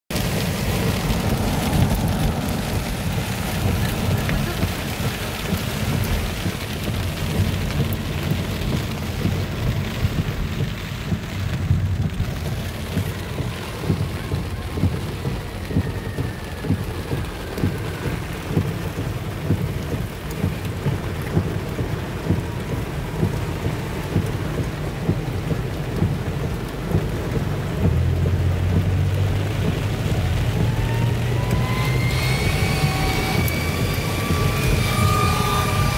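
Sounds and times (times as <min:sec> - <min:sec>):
heavy rain drumming on car roof: 0:00.1 - 0:35.9
steady low rumble: 0:00.1 - 0:35.9.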